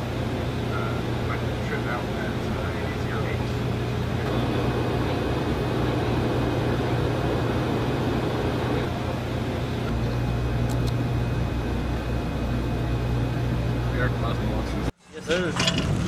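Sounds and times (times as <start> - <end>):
ventilation air rush: 0.0 - 15.5
low electrical hum: 0.0 - 16.0.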